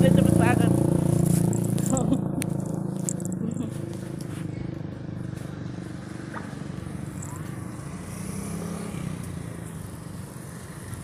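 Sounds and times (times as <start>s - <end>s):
street traffic drone: 0.0s - 11.0s.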